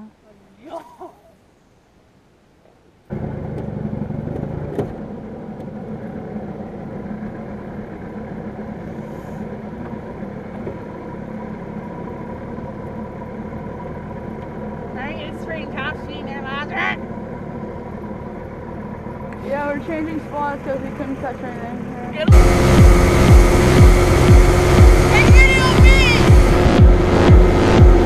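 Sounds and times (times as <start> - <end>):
outboard motor running: 3.1 - 28.0.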